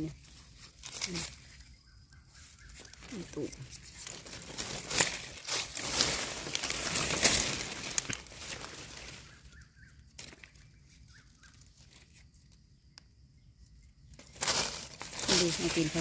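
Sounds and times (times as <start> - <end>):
dry leaves rustling and crackling: 0.0 - 12.6, 14.1 - 16.0.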